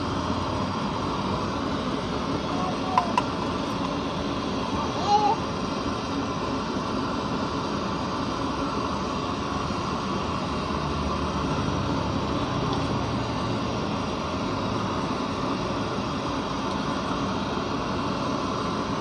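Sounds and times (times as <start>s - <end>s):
gas stove burner rushing: 0.0s - 19.0s.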